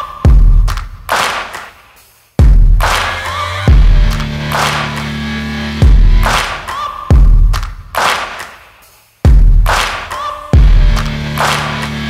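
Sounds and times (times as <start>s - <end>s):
music with heavy beat: 0.0s - 12.0s.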